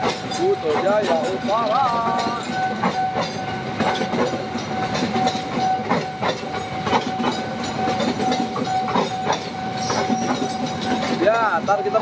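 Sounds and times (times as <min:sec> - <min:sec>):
train passing at speed: 0:00.0 - 0:12.0
wheels clacking over rail joints: 0:00.0 - 0:12.0.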